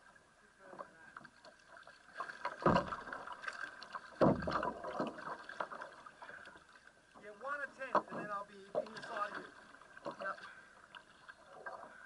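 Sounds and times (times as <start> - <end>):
kayak paddle strokes in water: 0.8 - 12.0.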